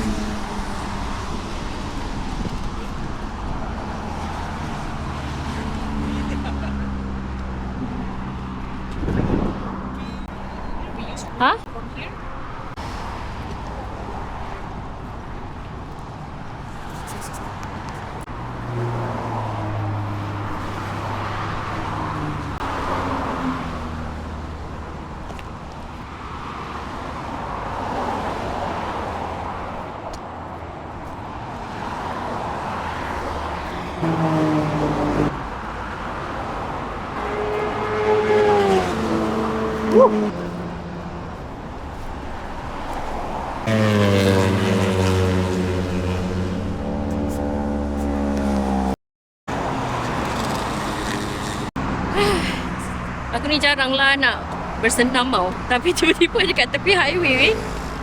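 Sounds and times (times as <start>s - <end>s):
highway traffic passing: 0.0s - 58.0s.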